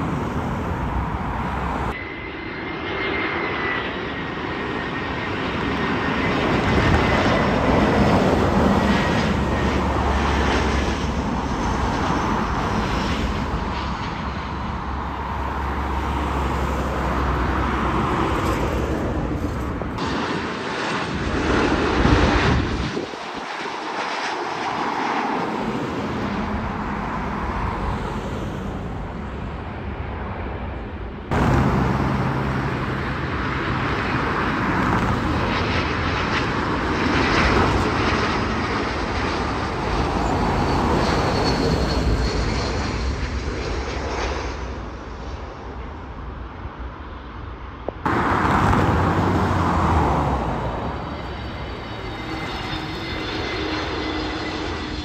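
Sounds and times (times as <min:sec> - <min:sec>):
jet airliner landing: 0:00.0 - 0:55.0.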